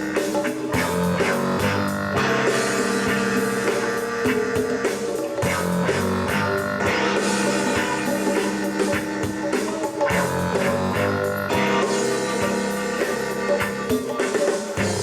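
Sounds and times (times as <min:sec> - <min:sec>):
rock music from cassette: 0:00.0 - 0:15.0.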